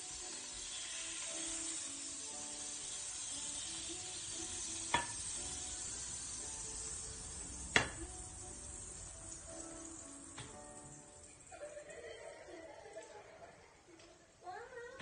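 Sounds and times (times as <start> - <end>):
batter sizzling in a frying pan: 0.0 - 12.5.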